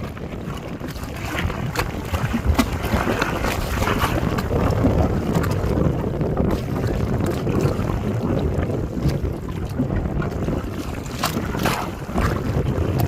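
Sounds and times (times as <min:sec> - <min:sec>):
lake water: 0:00.0 - 0:13.0
wind buffeting microphone: 0:00.0 - 0:13.0.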